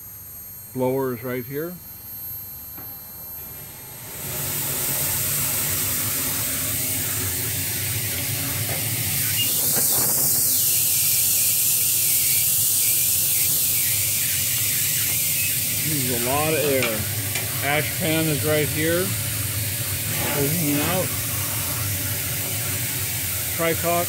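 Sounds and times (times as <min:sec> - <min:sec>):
steam hissing: 0:04.0 - 0:24.0.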